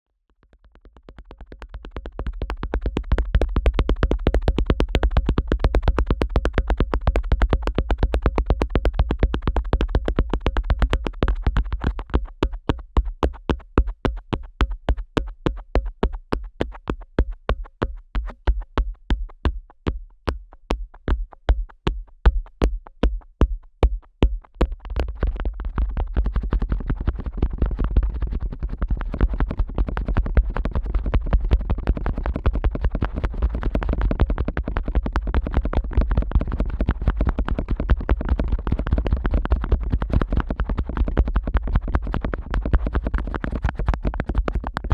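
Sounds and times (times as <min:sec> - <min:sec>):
muffled deep thumps on microphone: 0:01.0 - 0:44.9.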